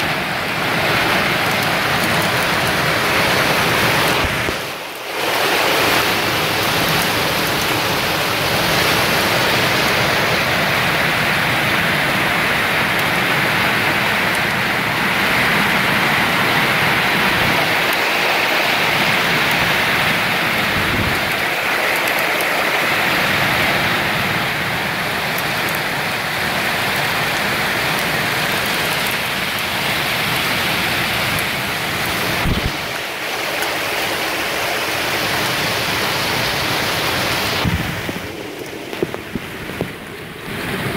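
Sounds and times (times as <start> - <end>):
hail and heavy rain falling: 0.0 - 40.9.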